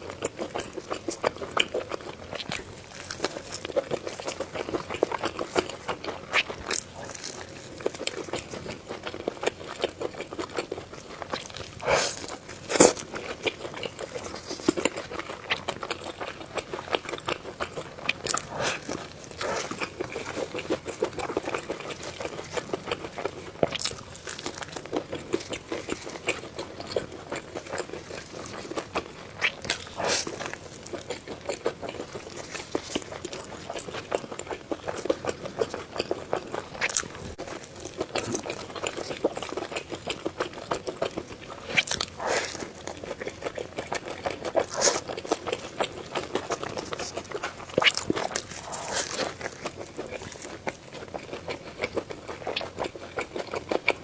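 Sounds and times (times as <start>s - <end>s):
chewing with wet mouth clicks: 0.0s - 54.0s
crunchy bite: 0.3s - 54.0s.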